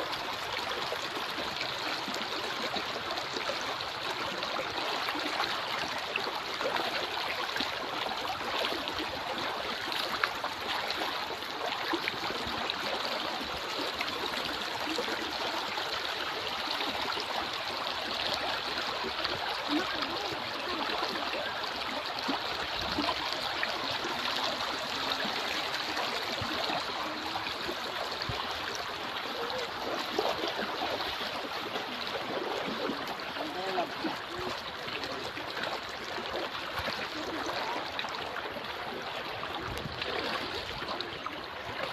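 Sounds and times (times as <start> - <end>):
river water babbling: 0.0 - 41.9.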